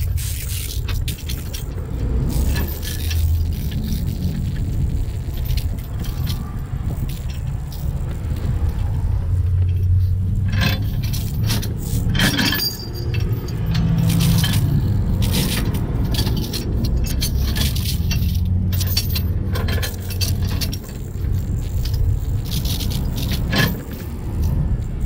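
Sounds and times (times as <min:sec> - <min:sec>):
steel chains clinking: 0:00.0 - 0:25.0
wind rumble on microphone: 0:00.0 - 0:25.0.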